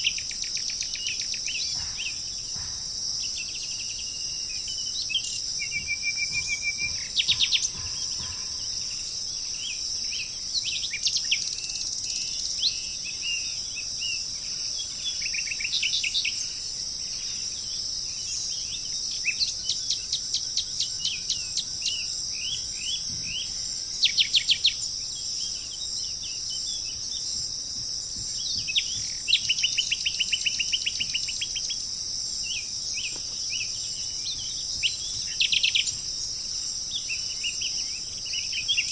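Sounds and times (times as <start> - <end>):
high-pitched insect drone: 0.0 - 38.9
songbirds chirping and trilling: 0.0 - 38.9.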